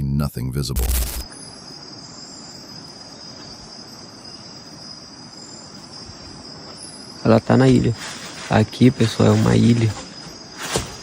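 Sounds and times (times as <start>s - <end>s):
crickets chirping: 0.0s - 11.0s
low background hiss: 0.0s - 11.0s.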